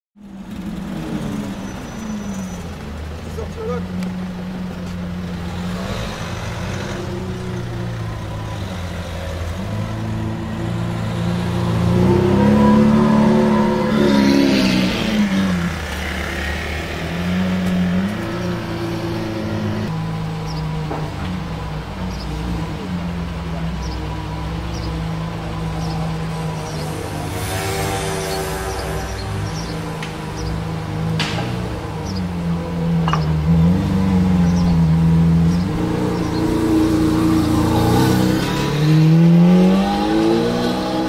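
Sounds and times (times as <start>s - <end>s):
sports car engine revving: 0.4s - 41.0s.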